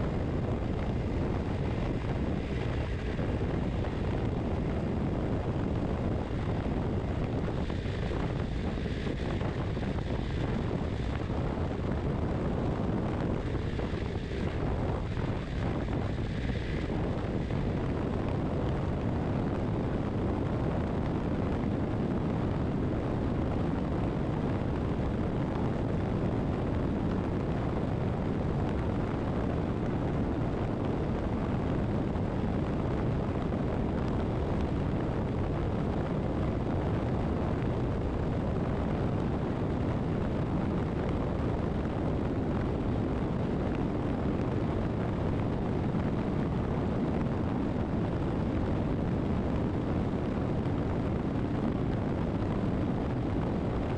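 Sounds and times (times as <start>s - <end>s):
wind rushing on microphone: 0.0s - 53.9s.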